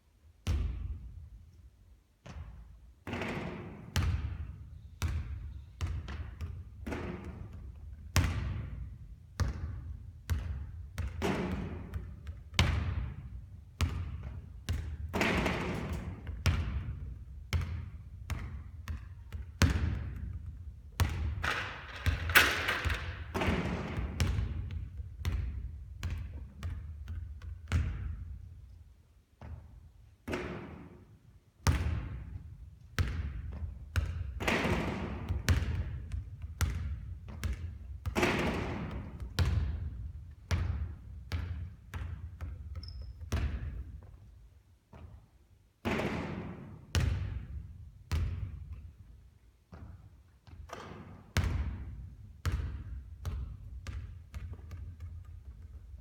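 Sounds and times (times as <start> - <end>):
basketball bouncing on court: 0.4 - 1.3, 2.2 - 28.7, 29.4 - 31.0, 31.6 - 56.0.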